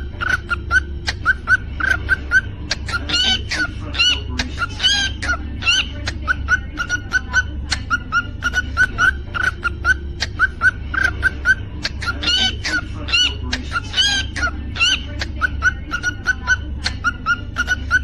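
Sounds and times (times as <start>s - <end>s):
cockatiel chirping: 0.0s - 18.0s.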